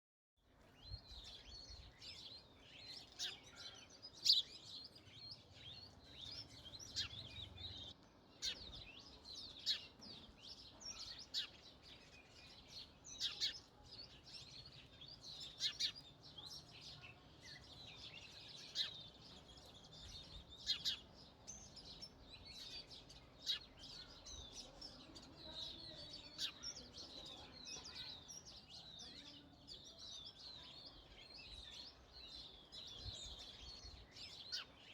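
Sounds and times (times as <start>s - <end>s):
sparrows chirping: 0.5s - 34.9s.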